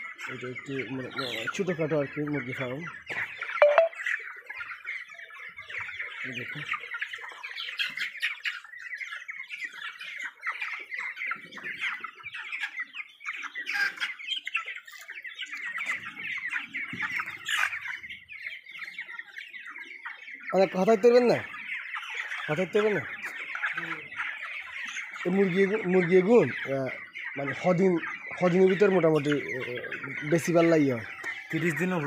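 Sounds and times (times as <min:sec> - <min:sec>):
flock of chicks peeping: 0:00.0 - 0:32.0.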